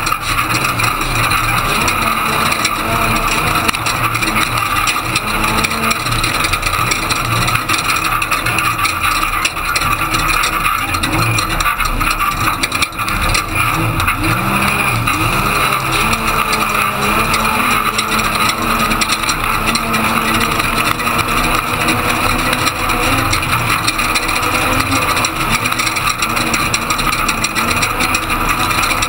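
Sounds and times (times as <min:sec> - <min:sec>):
knocks and rattles: 0:00.0 - 0:29.0
road and wind noise: 0:00.0 - 0:29.0
truck engine revving: 0:00.0 - 0:29.0.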